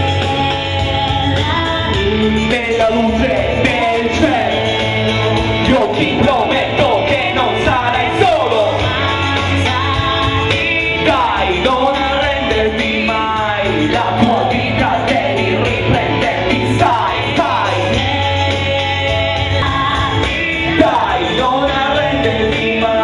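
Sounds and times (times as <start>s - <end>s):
backing music: 0.0s - 23.0s
man singing through pa speakers: 0.0s - 23.0s.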